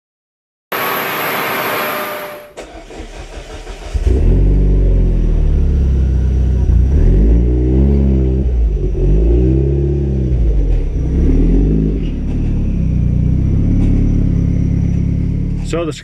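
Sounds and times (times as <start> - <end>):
car engine revving: 0.8 - 16.0.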